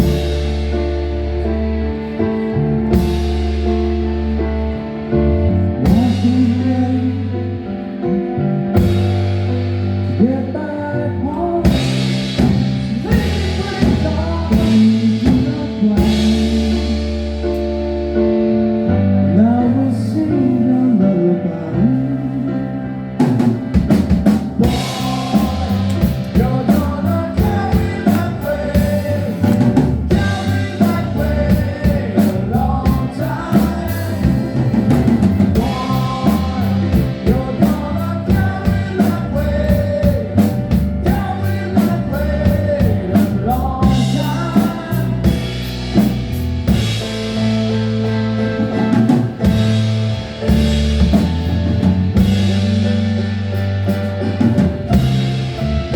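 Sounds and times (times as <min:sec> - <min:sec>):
drum kit beat: 0:00.0 - 0:02.1, 0:02.8 - 0:04.9, 0:05.8 - 0:06.7, 0:08.7 - 0:10.1, 0:11.6 - 0:18.0, 0:23.2 - 0:55.9
bass line: 0:00.0 - 0:55.9.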